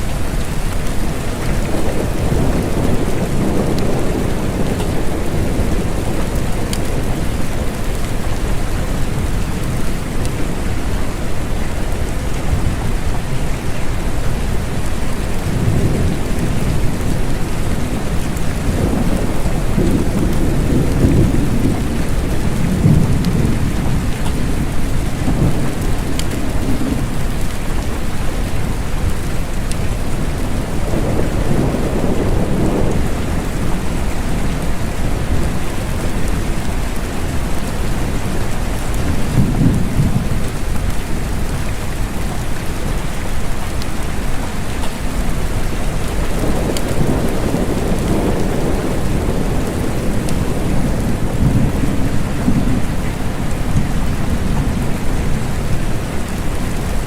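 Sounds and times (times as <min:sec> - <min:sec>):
rolling thunder: 0:00.0 - 0:57.0
steady rain: 0:00.0 - 0:57.0.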